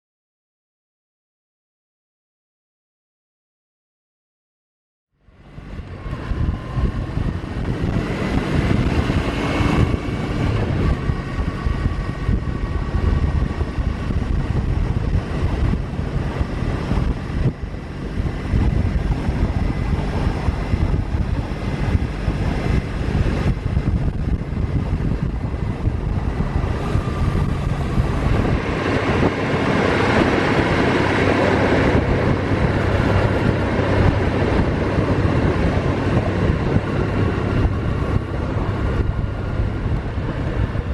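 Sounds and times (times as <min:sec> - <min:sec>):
motorcycle engine running: 0:05.2 - 0:40.9
wind noise on microphone: 0:05.2 - 0:40.9.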